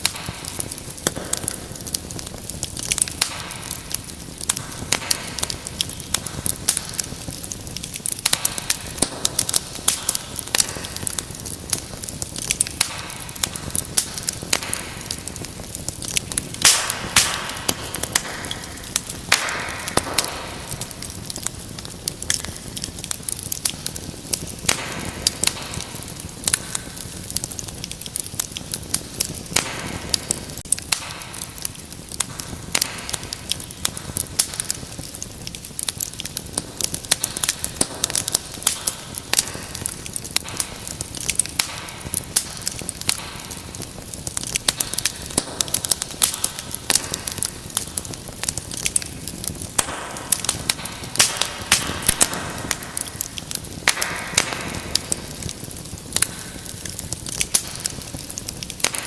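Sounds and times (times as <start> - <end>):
fire popping and snapping: 0.0 - 59.0
soft hiss of burning: 0.0 - 59.0
wood fire crackling: 0.0 - 59.0.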